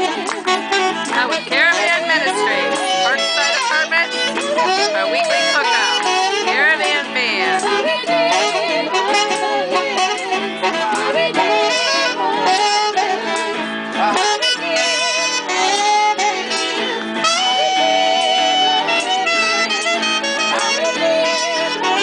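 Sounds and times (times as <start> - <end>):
electric guitar: 0.0 - 22.0
saxophone lead: 0.0 - 22.0
voices singing: 0.0 - 22.0.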